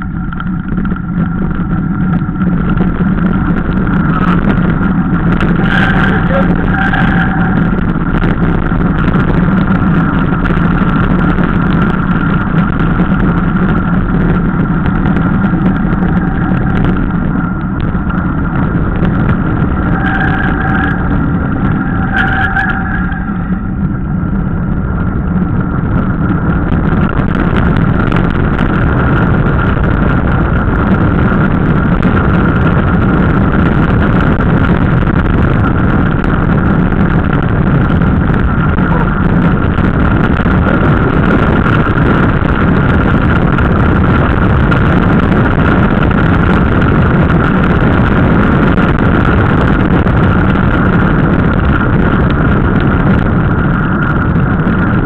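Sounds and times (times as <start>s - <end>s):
bike tyres rolling on tarmac: 0.0s - 55.0s
wind rushing over microphone: 0.0s - 55.0s.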